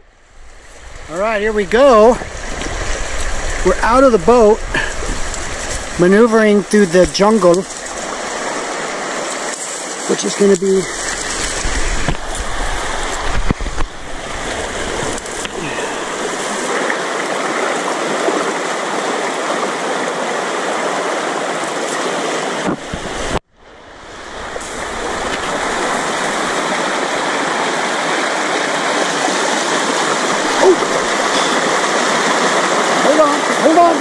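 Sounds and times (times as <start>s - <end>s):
river water rushing over riffle: 0.0s - 34.0s.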